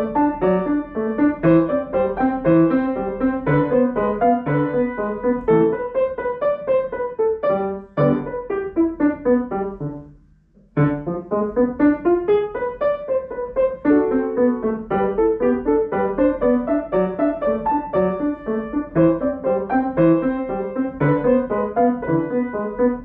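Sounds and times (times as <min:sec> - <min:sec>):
grand piano playing: 0:00.0 - 0:23.0.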